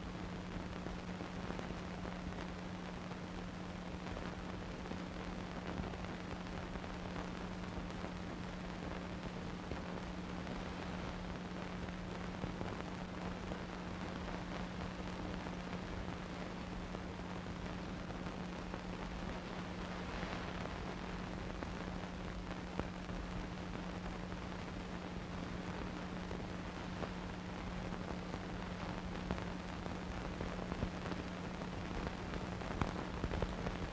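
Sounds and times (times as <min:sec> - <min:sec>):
constant low hum: 0:00.0 - 0:33.9
steady hiss: 0:00.0 - 0:33.9
faint crackling clicks: 0:00.1 - 0:33.9.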